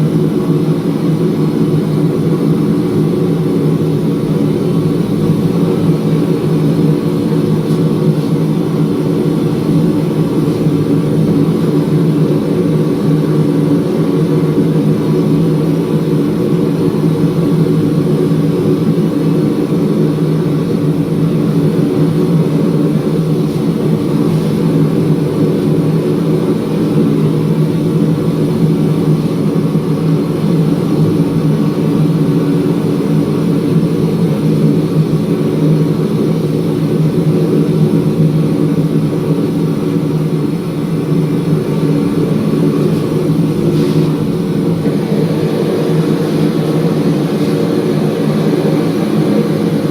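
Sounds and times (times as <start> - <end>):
machine droning: 0.0 - 49.9.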